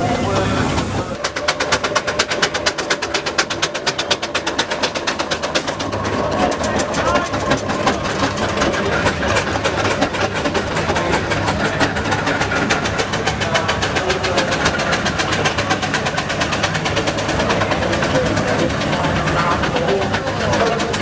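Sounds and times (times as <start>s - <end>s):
engine running with sharp knocks: 0.0s - 21.0s.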